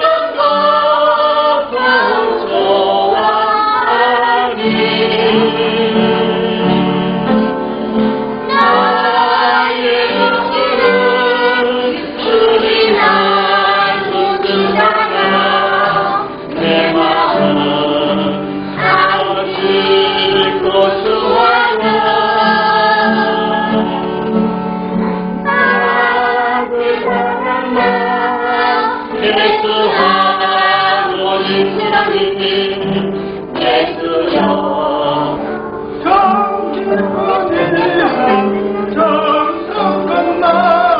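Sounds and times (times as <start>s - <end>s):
group singing a hymn: 0.0s - 40.9s
held accompanying notes: 0.0s - 40.9s.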